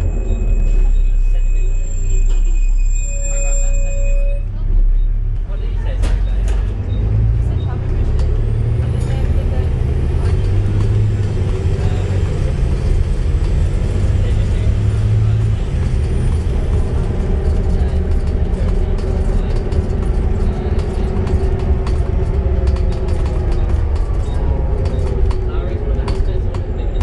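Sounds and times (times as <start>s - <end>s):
bus drivetrain whine: 0.0s - 27.0s
deep bus engine note: 0.0s - 27.0s
bus body rattles: 4.6s - 27.0s.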